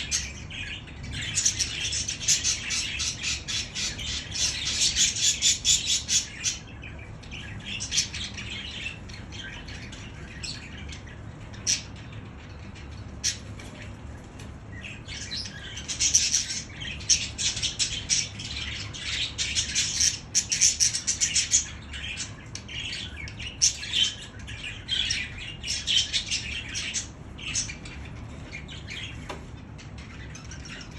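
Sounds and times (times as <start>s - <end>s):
budgerigars chattering: 0.0s - 13.8s, 14.7s - 29.2s.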